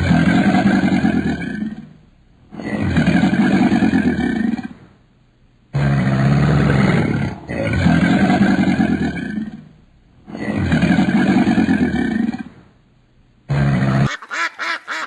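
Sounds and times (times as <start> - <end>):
large animal roaring: 0.0 - 4.8, 5.7 - 12.6, 13.5 - 14.1.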